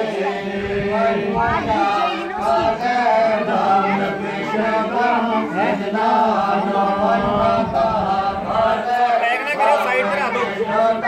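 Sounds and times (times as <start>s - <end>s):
group chanting: 0.0s - 11.0s.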